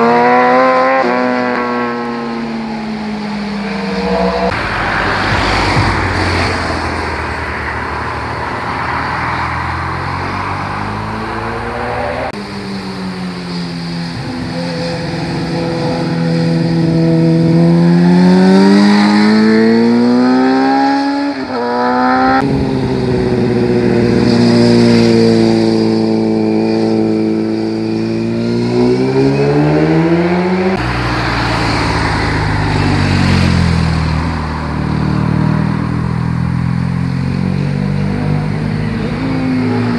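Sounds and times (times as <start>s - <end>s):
car passing by: 0.0s - 12.4s, 14.2s - 39.9s
motorcycle engines accelerating: 0.0s - 39.9s.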